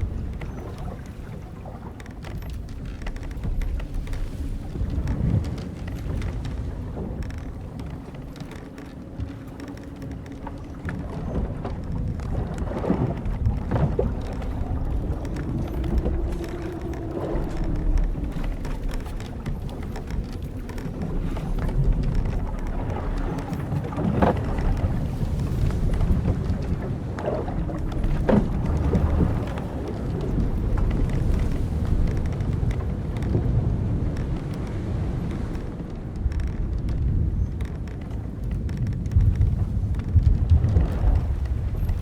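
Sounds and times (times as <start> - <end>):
wind and sea rumble: 0.0 - 42.0
wooden ship timbers creaking: 0.0 - 42.0.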